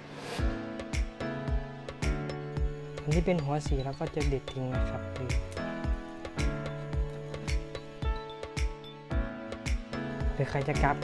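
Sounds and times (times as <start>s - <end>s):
music with held chords and beat: 0.0s - 11.0s.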